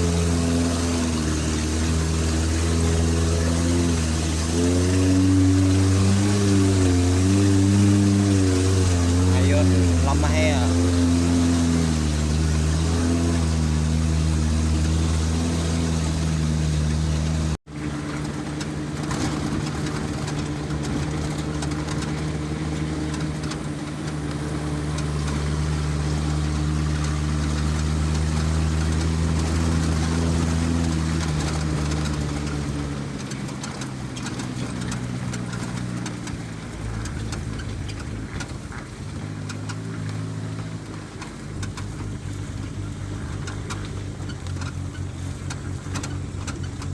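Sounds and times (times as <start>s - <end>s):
road and wind noise: 0.0s - 46.9s
vehicle engine running: 0.0s - 46.9s.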